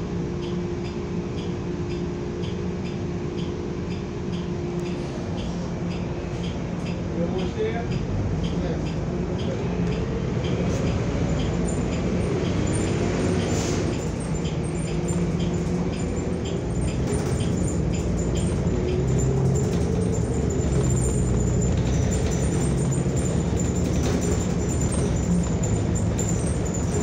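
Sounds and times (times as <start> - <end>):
bus engine and road hum: 0.0 - 27.0
light ticking: 0.4 - 27.0.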